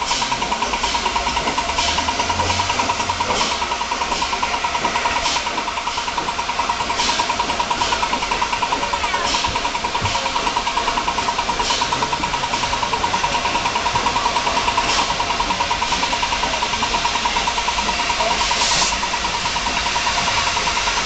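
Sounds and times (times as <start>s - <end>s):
steady steam hiss: 0.0s - 21.0s
steam locomotive exhaust beats: 0.0s - 21.0s.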